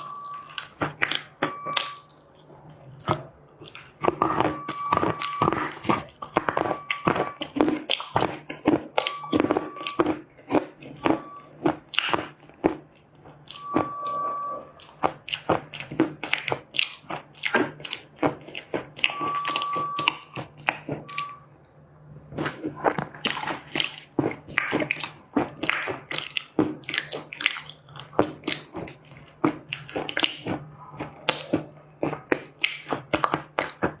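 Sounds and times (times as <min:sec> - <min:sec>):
person chewing dry clay: 0:00.0 - 0:34.0.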